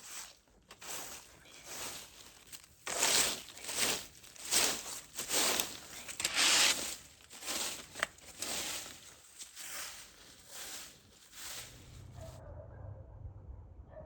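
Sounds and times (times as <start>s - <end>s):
crunching footsteps on dry surface: 0.0s - 12.4s.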